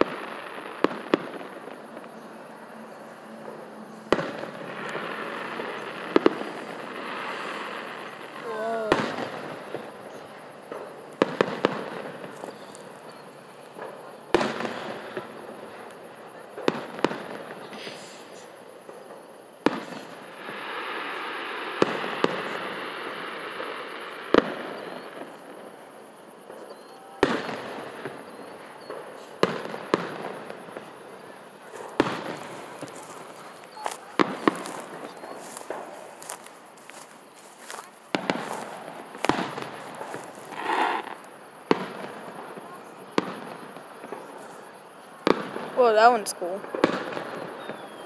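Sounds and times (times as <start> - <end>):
fireworks shells bursting: 0.0 - 25.6, 26.5 - 44.6.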